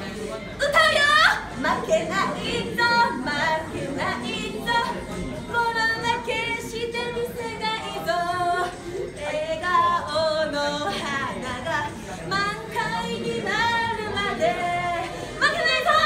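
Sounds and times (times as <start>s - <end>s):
woman singing into a microphone: 0.6s - 16.0s.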